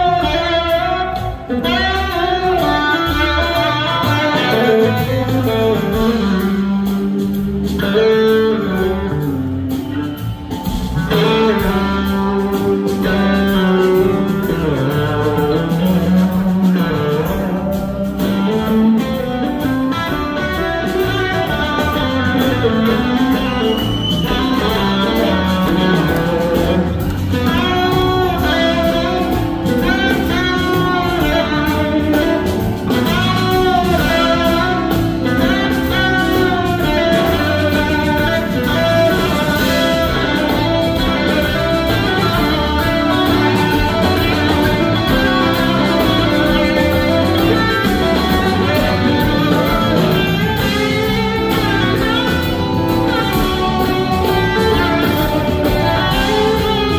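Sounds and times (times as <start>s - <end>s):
blues-rock band playing: 0.0s - 56.9s
electric guitar solo: 0.0s - 56.9s.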